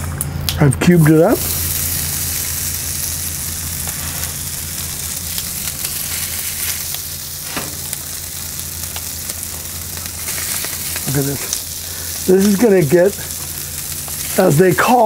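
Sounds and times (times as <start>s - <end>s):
low steady hum: 0.0s - 15.0s
meat sizzling on a griddle: 1.2s - 15.0s.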